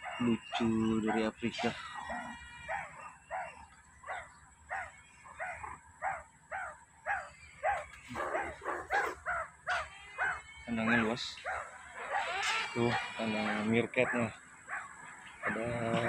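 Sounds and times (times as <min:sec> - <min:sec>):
meerkats calling: 0:00.0 - 0:16.0.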